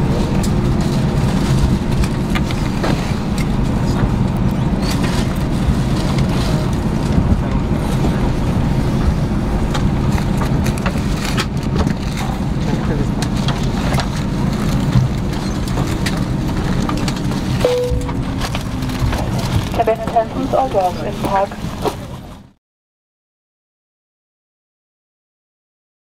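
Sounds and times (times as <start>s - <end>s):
aircraft cabin low rumble: 0.0s - 22.5s.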